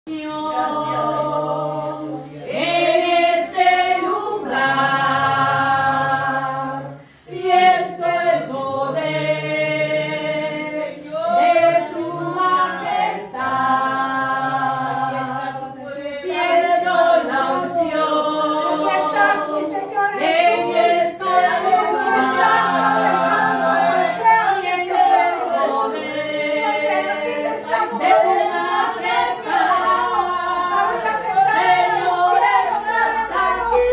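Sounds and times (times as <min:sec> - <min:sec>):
group singing unaccompanied: 0:00.1 - 0:33.9.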